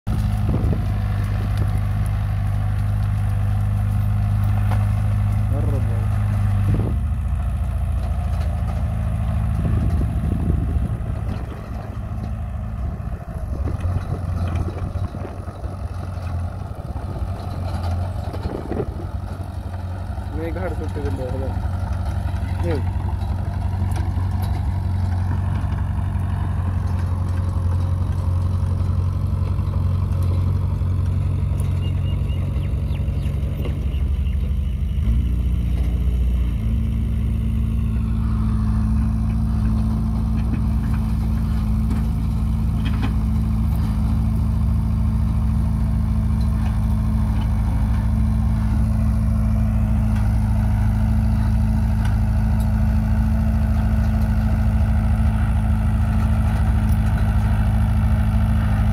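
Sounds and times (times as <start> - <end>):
bulldozer diesel engine running: 0.0 - 58.9.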